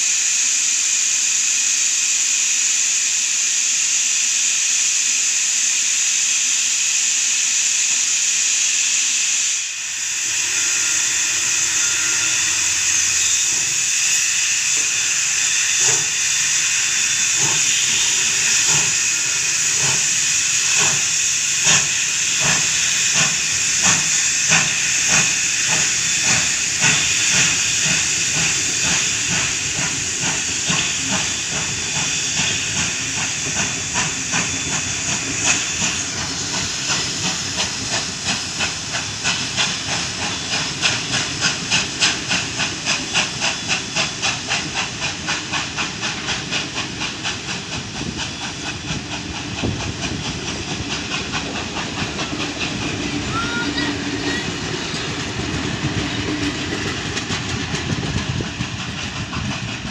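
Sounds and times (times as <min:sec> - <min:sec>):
steam hissing: 0:00.0 - 0:59.9
steam locomotive chuffing beats: 0:00.0 - 0:59.9.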